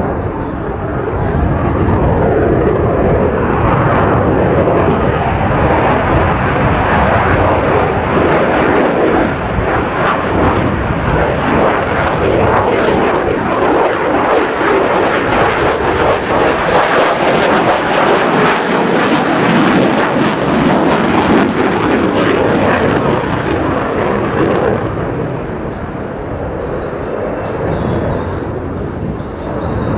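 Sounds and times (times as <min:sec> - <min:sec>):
jet engine in afterburner: 0:00.0 - 0:29.9.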